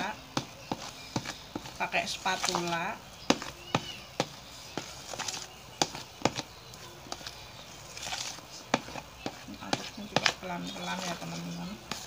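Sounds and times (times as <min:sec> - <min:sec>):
spatula stirring batter in bowl: 0:00.0 - 0:12.0.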